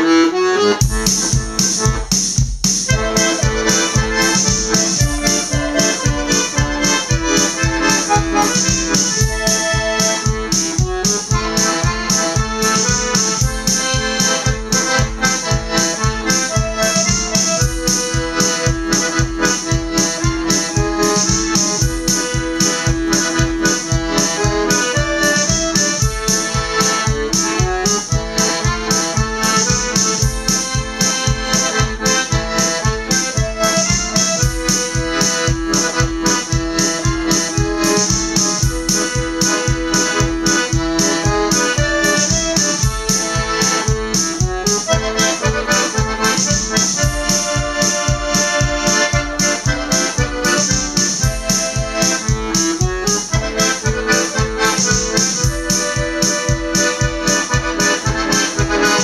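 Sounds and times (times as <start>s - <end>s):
accordion melody: 0.0s - 59.0s
keyboard backing accompaniment: 0.0s - 59.0s
programmed drum beat: 0.8s - 59.0s.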